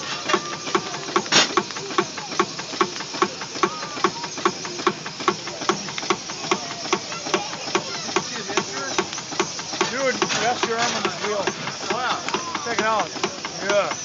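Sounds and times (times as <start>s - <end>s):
steam hiss: 0.0s - 14.0s
steam traction engine idling: 0.0s - 14.0s.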